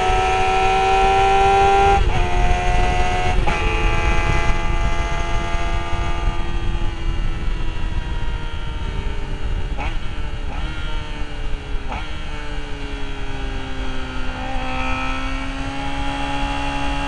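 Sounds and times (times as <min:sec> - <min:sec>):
motorcycle engine at high revs: 0:00.0 - 0:17.0
wind rumble on microphone: 0:00.0 - 0:17.0.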